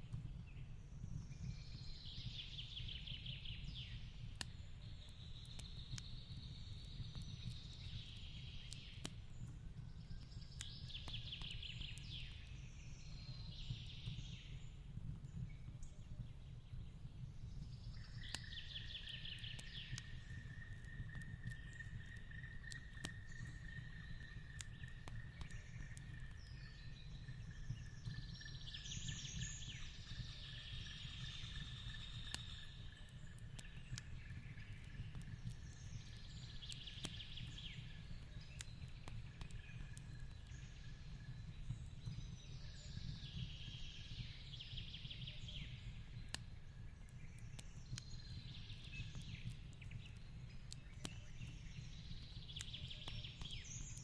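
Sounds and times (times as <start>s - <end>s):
birdsong: 0.0s - 54.0s.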